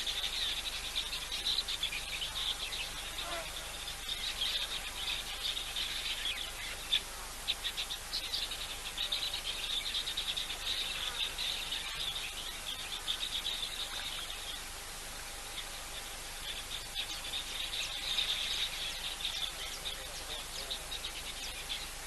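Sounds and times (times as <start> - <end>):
insects and birds chirping: 0.0 - 22.0.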